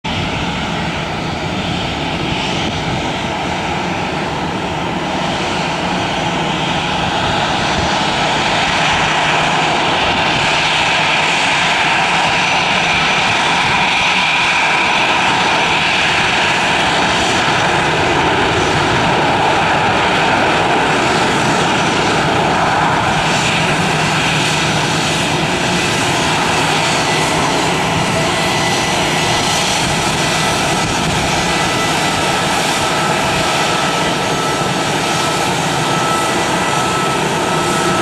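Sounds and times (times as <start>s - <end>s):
jet engines whining: 0.0s - 38.0s.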